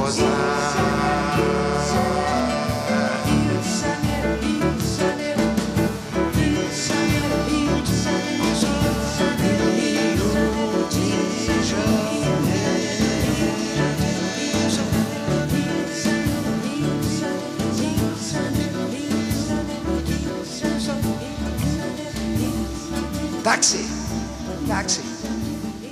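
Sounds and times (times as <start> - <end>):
bossa nova band playing: 0.0 - 25.9
women singing together: 0.0 - 25.9.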